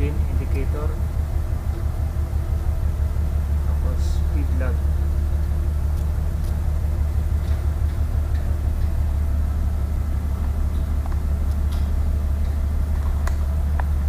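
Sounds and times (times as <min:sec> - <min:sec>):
ship engine hum: 0:00.0 - 0:14.0.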